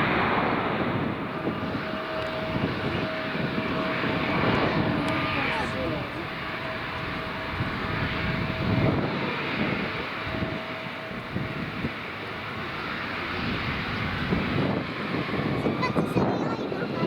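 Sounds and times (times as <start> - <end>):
airliner engines running: 0.0 - 17.0
wind buffeting microphone: 0.0 - 17.0.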